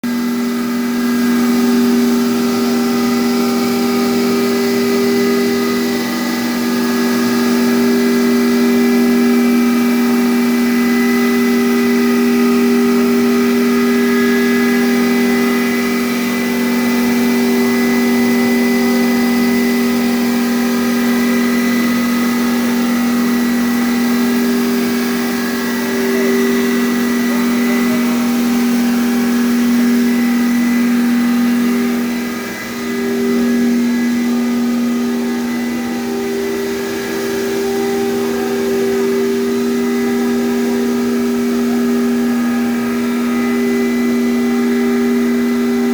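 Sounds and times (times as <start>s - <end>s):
hammer mill running: 0.0s - 45.9s.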